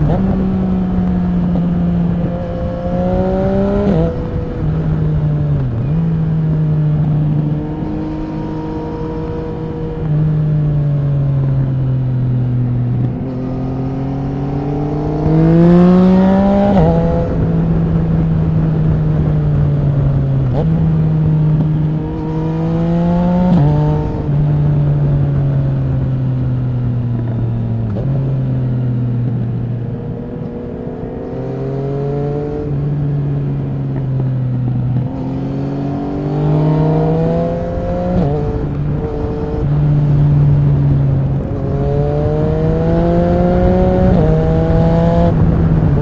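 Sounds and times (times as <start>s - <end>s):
motorcycle engine accelerating through gears: 0.0s - 46.0s.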